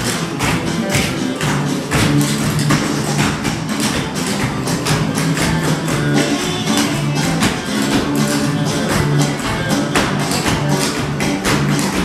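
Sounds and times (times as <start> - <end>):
upbeat music: 0.0 - 12.0.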